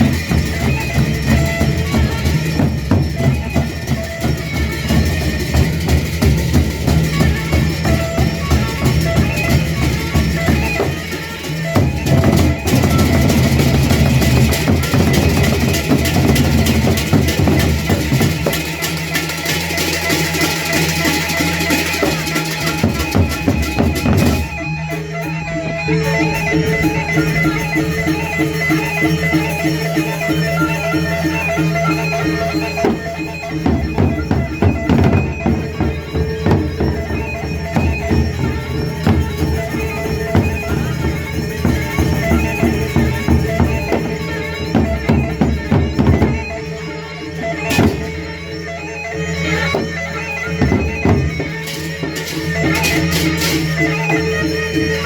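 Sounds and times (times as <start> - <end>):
drums: 0.0 - 55.0
reedy wind instrument: 0.0 - 55.0.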